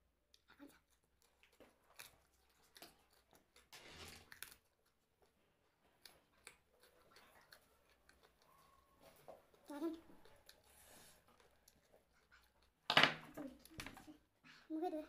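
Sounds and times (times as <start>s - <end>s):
chewing and crunching snacks: 0.2s - 12.9s.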